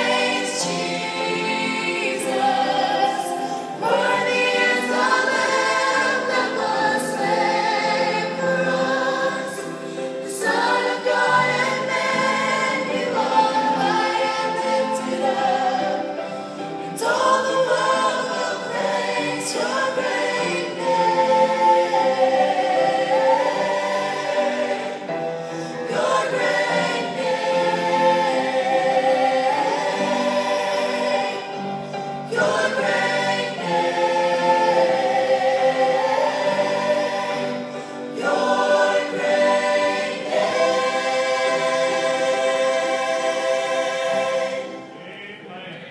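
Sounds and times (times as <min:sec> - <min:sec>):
choir singing gospel: 0:00.0 - 0:45.9.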